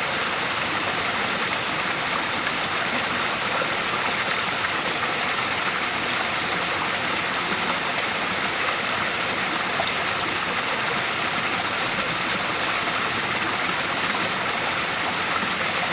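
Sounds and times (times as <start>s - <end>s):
waterfall rushing and splashing: 0.0s - 15.9s.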